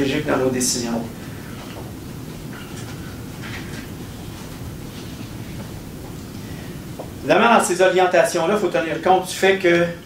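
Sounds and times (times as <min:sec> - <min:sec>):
low room rumble: 0:00.0 - 0:10.0.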